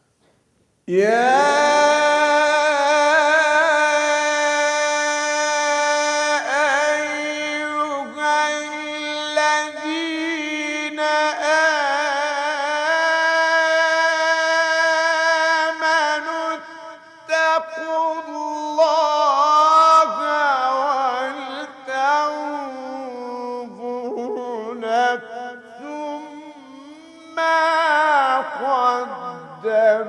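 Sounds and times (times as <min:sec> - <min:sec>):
man reciting melismatic chant: 0:00.9 - 0:30.0.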